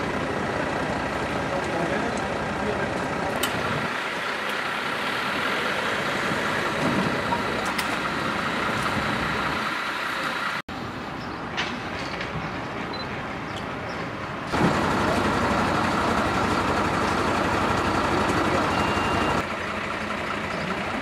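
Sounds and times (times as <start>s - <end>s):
fire engine idling: 0.0s - 10.6s, 14.5s - 21.0s.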